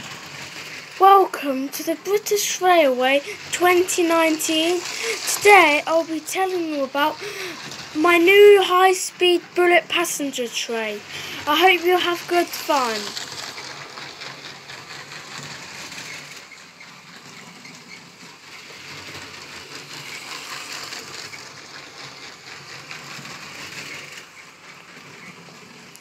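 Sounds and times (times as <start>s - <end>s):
toy train running on track: 0.0s - 26.0s.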